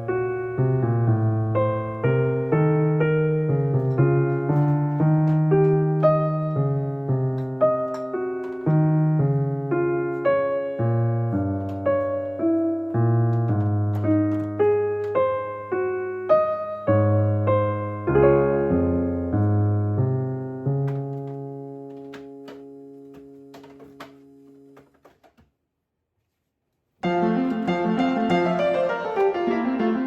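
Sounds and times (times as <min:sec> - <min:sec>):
electric piano melody: 0:00.0 - 0:25.0, 0:27.0 - 0:30.0.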